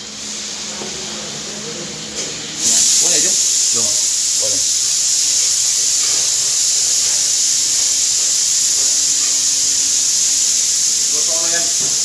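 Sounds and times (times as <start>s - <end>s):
gas burner hissing: 0.0s - 12.0s.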